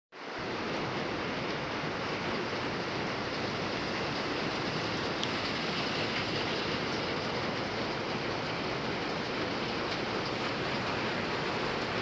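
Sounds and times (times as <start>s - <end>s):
heavy rain drumming on a roof: 0.2s - 12.0s.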